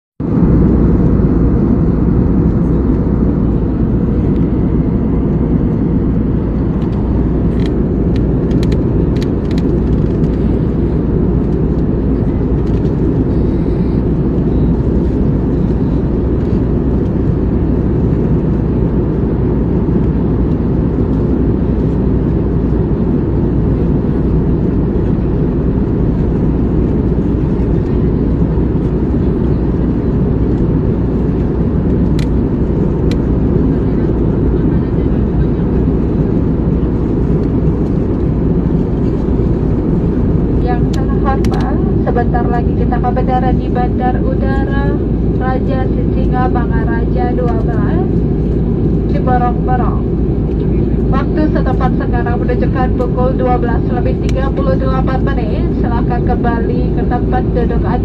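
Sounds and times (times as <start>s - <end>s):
airliner cabin engine noise: 0.2s - 58.0s.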